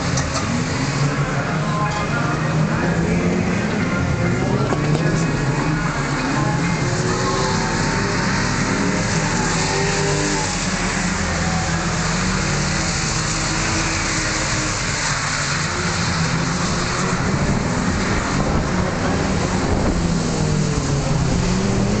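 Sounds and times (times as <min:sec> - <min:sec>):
car engines revving: 0:00.0 - 0:22.0
tyres hissing on wet track: 0:00.0 - 0:22.0.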